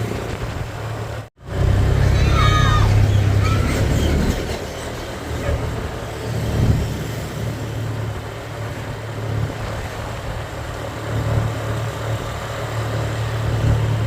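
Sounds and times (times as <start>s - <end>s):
motor vehicle rumbling: 0.0s - 14.0s.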